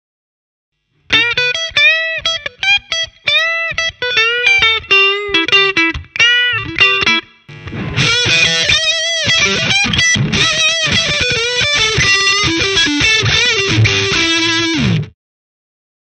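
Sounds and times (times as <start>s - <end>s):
clean electric guitar solo: 1.1s - 15.1s.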